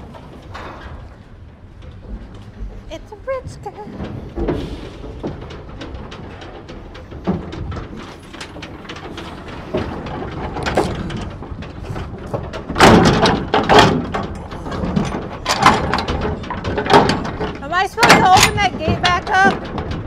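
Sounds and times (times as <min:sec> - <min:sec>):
metal rattling and clanking: 0:00.0 - 0:20.0.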